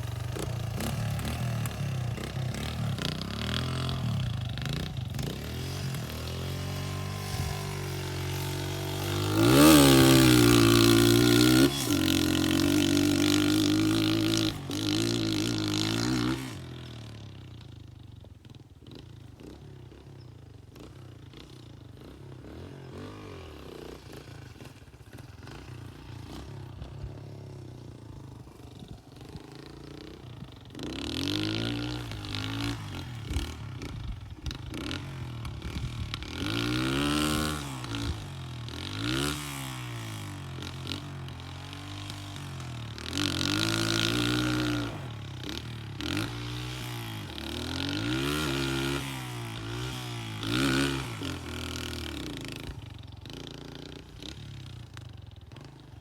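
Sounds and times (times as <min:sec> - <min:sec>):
dirt bike engine revving: 0:00.0 - 0:17.0, 0:20.7 - 0:54.8.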